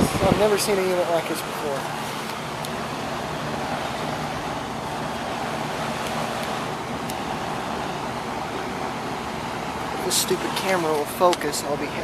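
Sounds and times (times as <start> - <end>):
outdoor fan rushing: 0.0 - 12.0.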